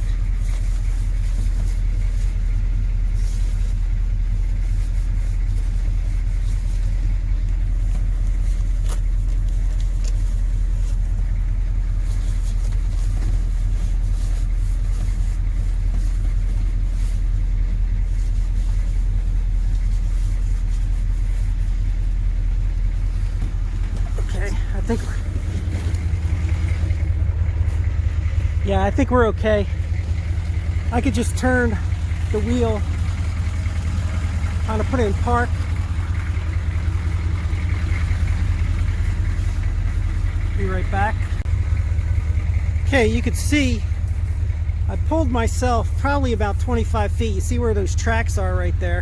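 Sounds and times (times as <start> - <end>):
diesel engine rumbling: 0.0 - 49.0.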